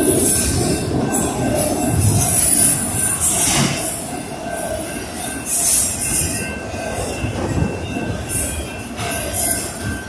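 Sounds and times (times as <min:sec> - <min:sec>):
train wheels rushing on rails: 0:00.0 - 0:10.0.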